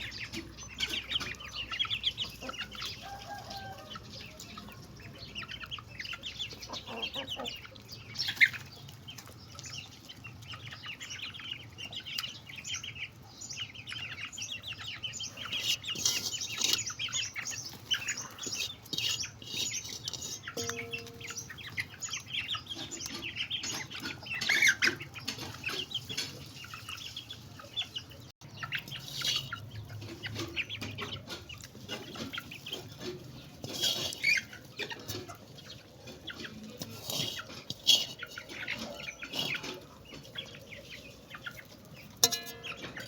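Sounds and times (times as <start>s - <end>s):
chickens clucking and squawking: 0.0s - 43.0s.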